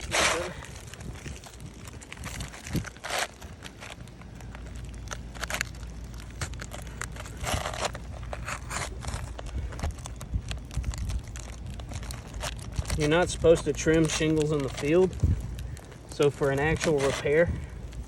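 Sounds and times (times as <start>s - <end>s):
low rumble: 0.0s - 16.8s
roofing shingle scraping: 0.0s - 18.0s.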